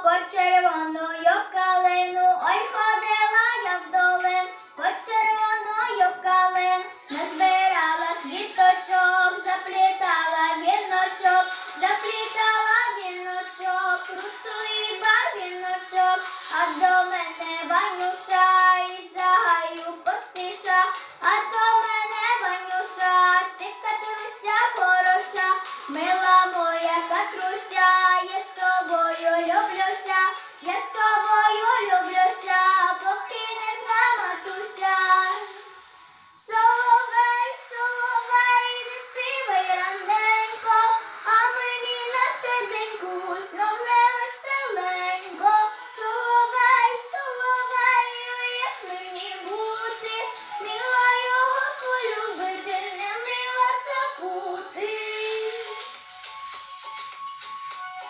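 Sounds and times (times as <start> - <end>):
girl singing a folk song: 0.0 - 35.7, 36.4 - 55.8.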